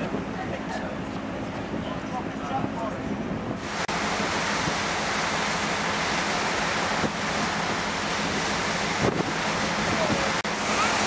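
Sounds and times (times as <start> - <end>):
churned water rushing: 0.0 - 11.0
rushing wind: 0.0 - 11.0.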